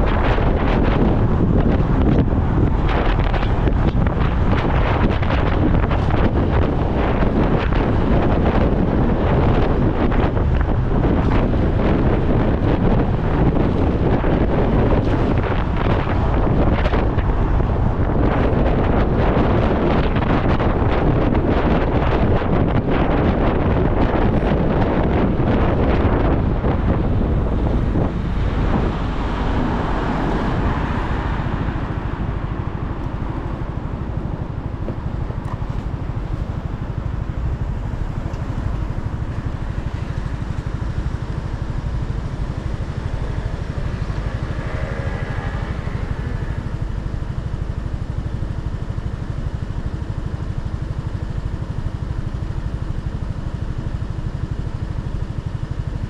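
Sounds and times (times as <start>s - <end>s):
motorcycle engine rumbling: 0.0s - 52.9s
wind noise: 0.0s - 56.0s.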